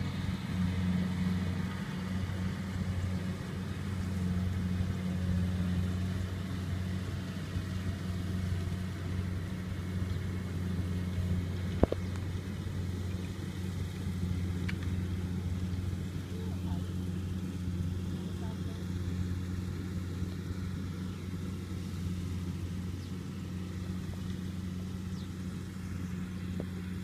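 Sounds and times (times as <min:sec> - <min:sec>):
combine harvester engine droning: 0:00.0 - 0:27.0.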